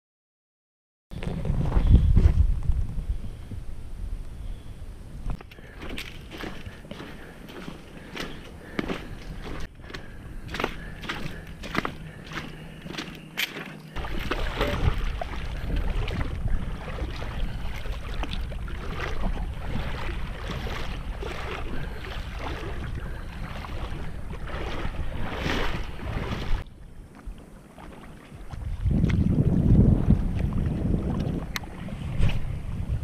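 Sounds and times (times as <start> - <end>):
wind buffeting microphone: 1.1 - 27.5, 28.3 - 33.0
shallow water splashing: 5.4 - 32.5.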